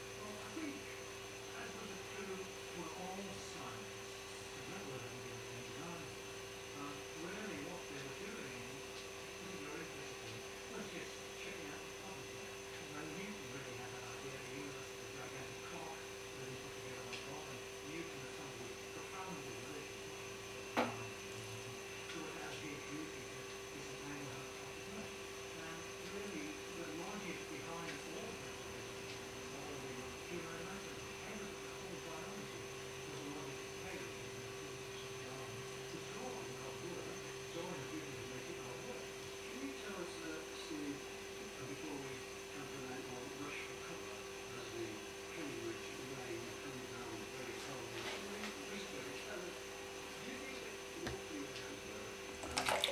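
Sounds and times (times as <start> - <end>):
electrical hum: 0.0 - 52.9
faint low murmur: 0.0 - 52.9
faint muffled voices: 0.0 - 52.9.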